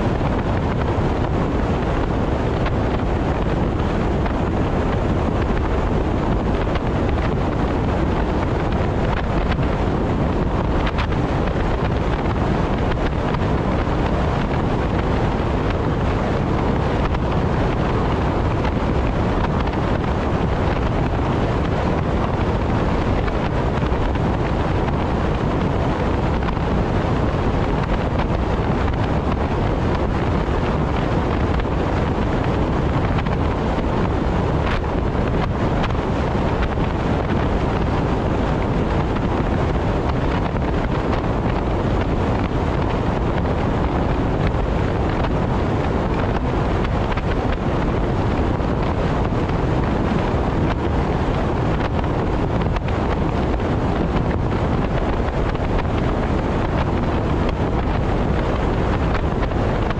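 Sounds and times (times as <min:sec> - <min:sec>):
car wind and road noise: 0:00.0 - 0:59.9.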